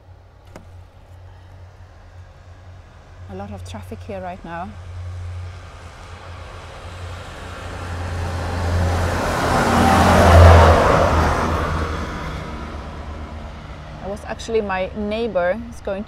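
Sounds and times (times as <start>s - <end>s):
vehicle driving past: 1.3s - 14.9s.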